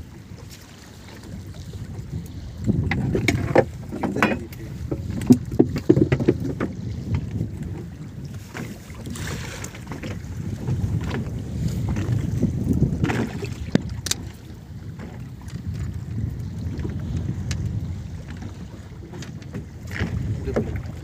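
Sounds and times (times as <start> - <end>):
wind rumbling on microphone: 0.0 - 21.0
knocks and thuds on boat deck: 2.4 - 21.0.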